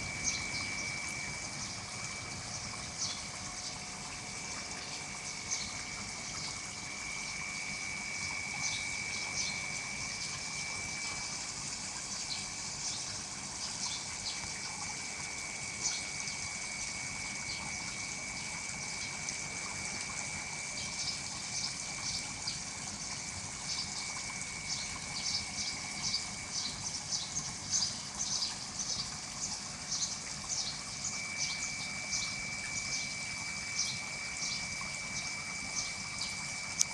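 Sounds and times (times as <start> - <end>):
water bubbling and trickling: 0.0 - 36.9.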